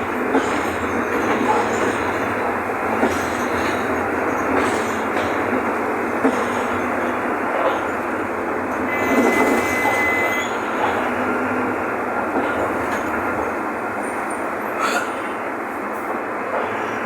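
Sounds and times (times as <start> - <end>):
bus engine noise inside cabin: 0.0 - 17.0.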